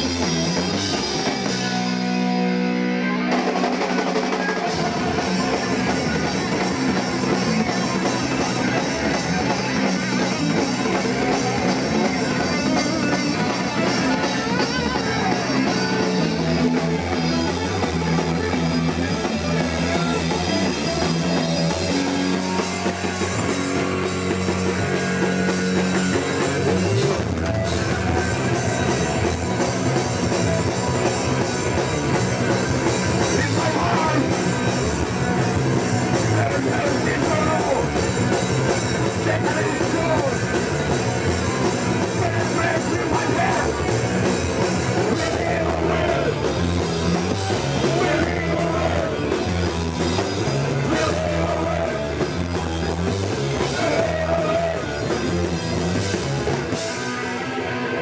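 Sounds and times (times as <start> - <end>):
bass guitar: 0.0 - 58.0
electric guitar: 0.0 - 58.0
drum kit with crashing cymbals: 3.4 - 57.5.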